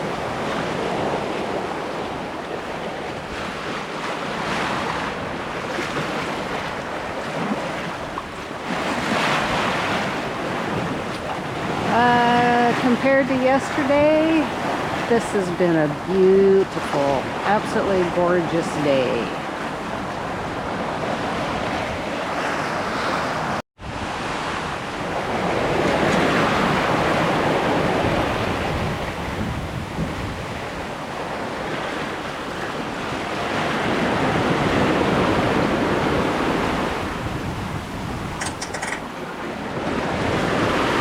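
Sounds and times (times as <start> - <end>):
water rushing along a boat hull: 0.0 - 41.0
wind buffeting microphone: 0.0 - 41.0.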